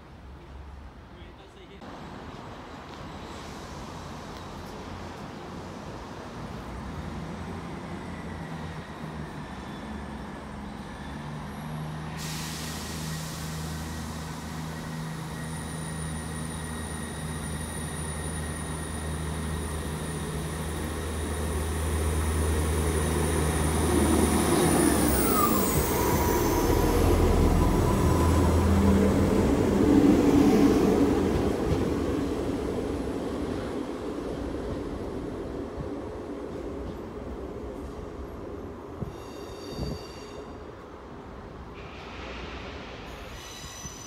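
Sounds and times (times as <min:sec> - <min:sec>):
high train whine: 0:01.9 - 0:44.0
train engine drone: 0:01.9 - 0:44.0.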